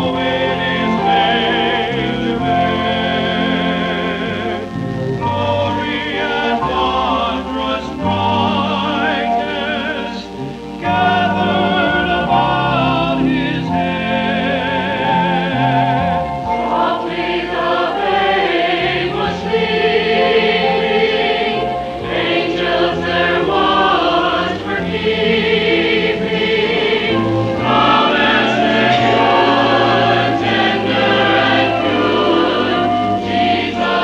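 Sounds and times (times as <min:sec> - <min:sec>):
choir singing: 0:00.0 - 0:34.0.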